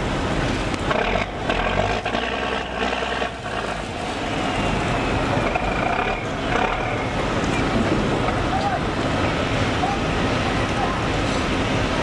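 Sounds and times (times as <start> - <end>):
steady engine noise: 0.0 - 12.0.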